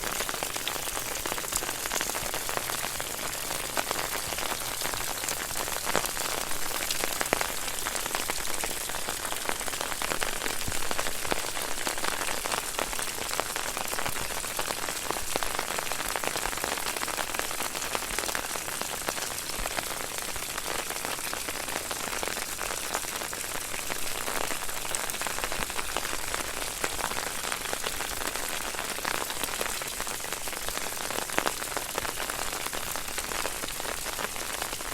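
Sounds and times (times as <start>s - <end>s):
fountain water splashing into pool: 0.0s - 34.9s.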